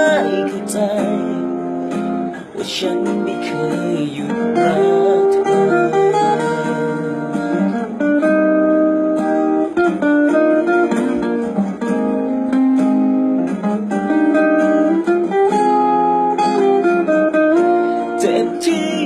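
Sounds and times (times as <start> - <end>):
acoustic guitar pop ballad: 0.0 - 19.0.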